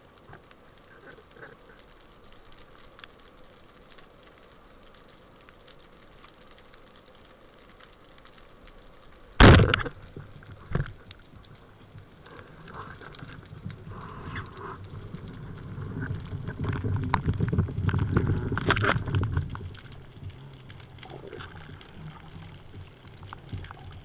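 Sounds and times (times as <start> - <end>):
underwater low rumble: 1.4 - 24.0.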